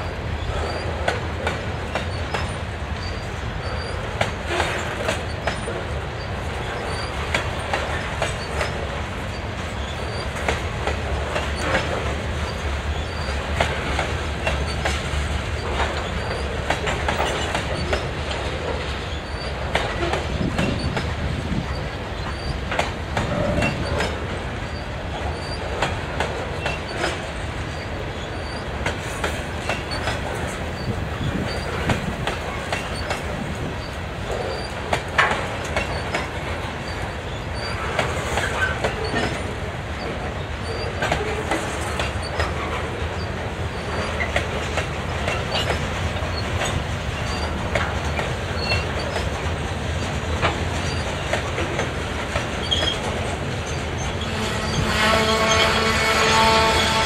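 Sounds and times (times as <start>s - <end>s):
freight train rumbling: 0.0s - 57.0s
wheels clicking over rail joints: 0.0s - 57.0s.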